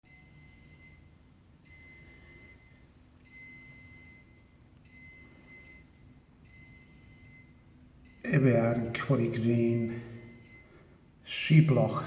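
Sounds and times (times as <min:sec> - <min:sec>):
faint alarm buzzer beeps: 0:00.0 - 0:12.0.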